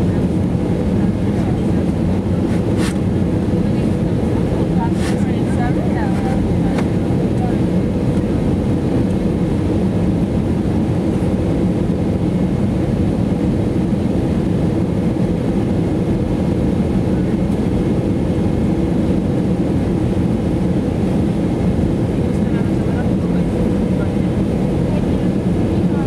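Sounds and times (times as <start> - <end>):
airflow over fuselage: 0.0 - 26.0
jet engine rumble: 0.0 - 26.0.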